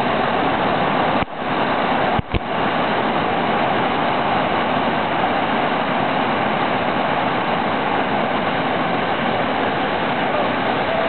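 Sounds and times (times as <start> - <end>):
rapids rushing over boulders: 0.0 - 11.0.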